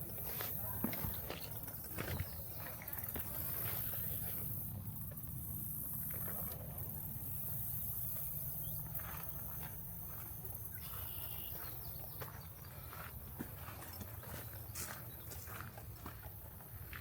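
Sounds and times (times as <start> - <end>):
footsteps on a trail: 0.0 - 17.0.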